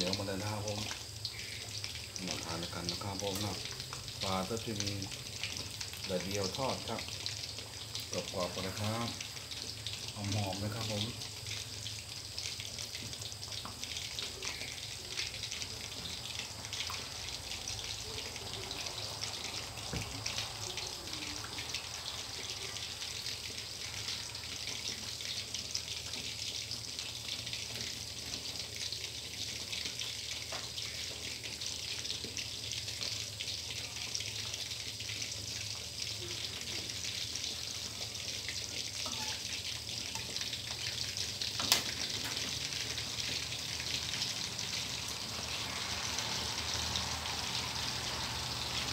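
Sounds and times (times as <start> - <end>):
fish deep-frying in hot oil: 0.0 - 48.9.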